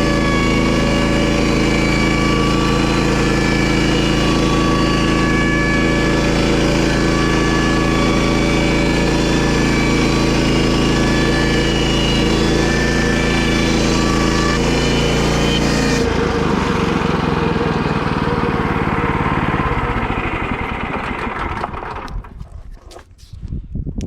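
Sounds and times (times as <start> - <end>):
small gasoline engine running: 0.0 - 23.1.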